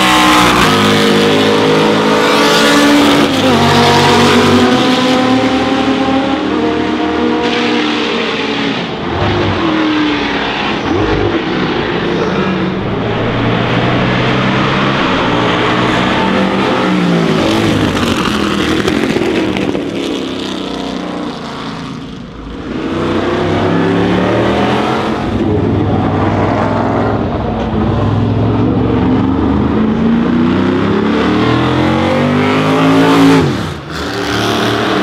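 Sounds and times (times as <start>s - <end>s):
race car engines at high revs: 0.0s - 35.0s.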